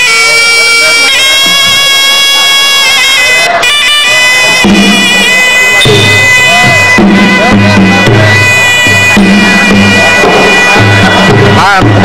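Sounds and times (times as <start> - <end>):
low pitched drums: 0.0 - 12.0
reed oboe melody: 0.0 - 12.0.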